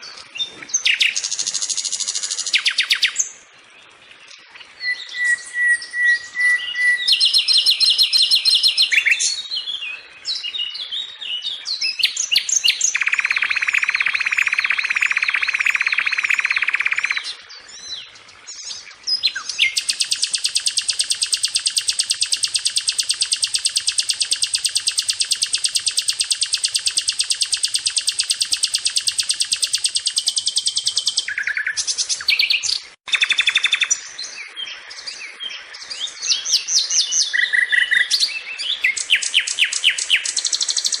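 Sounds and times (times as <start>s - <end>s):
bird singing chattering song: 0.0s - 41.0s.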